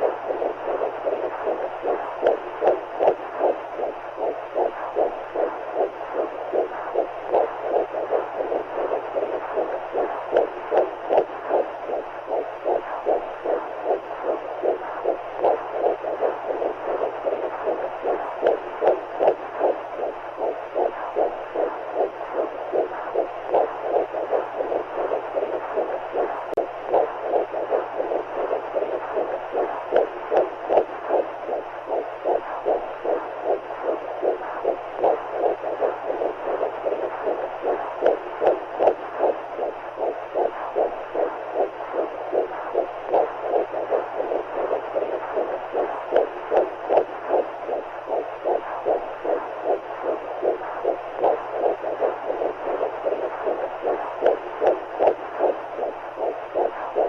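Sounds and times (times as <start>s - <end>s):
heartbeats pulsing: 0.0s - 57.0s.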